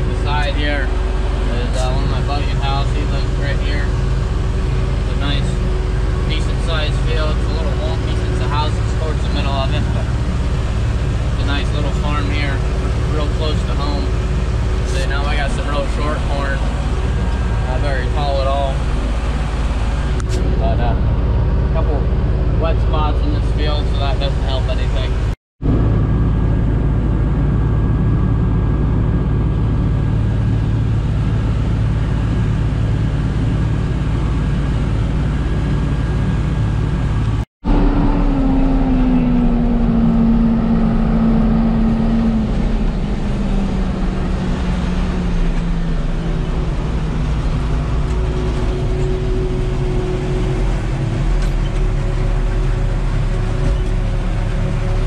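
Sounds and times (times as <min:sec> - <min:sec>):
droning tone falling in pitch: 0:00.0 - 0:55.0
harvester and tractor engines: 0:00.0 - 0:55.0.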